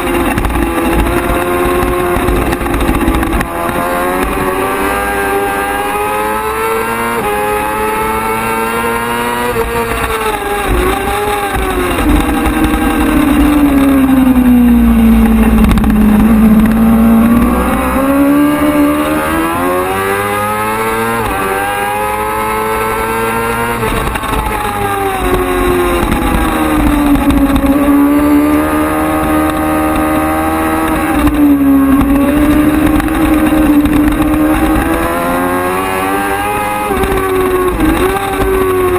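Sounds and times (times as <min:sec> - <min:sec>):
racing motorcycle engine: 0:00.0 - 0:38.9.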